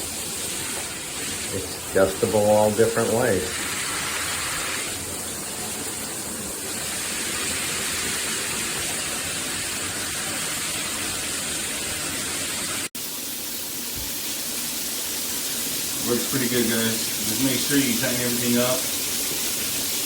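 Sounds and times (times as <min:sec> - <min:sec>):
shower water spraying: 0:00.0 - 0:20.0.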